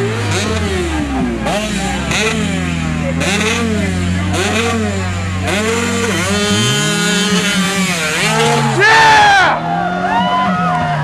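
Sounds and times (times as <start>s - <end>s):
motorcycle engine revving: 0.0s - 9.7s
engine running steadily: 0.0s - 11.0s.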